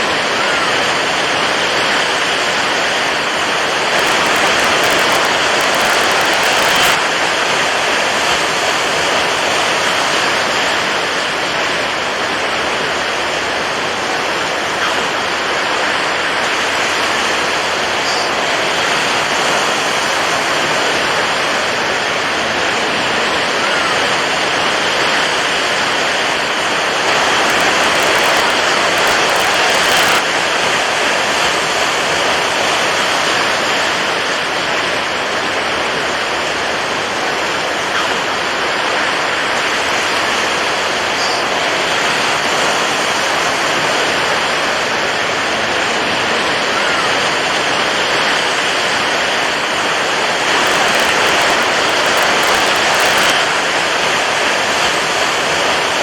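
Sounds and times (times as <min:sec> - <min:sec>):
water waves rushing: 0:00.0 - 0:56.0.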